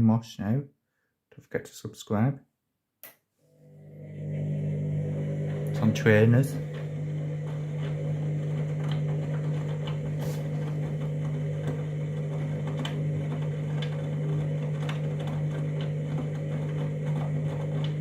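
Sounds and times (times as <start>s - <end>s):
washing machine motor hum: 3.5s - 18.0s.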